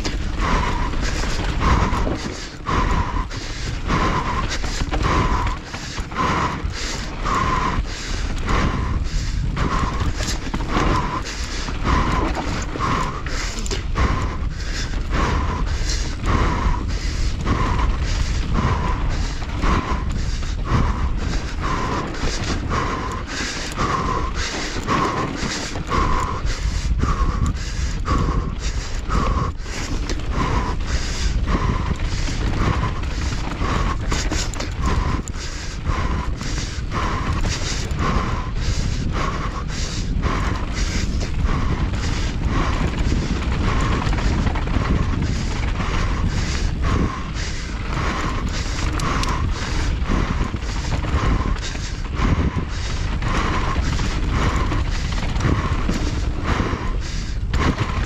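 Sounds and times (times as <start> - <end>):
bike rattling over bumps: 0.0 - 58.0
hard rhythmic breathing: 0.0 - 58.0
wind and tyre noise: 0.0 - 58.0.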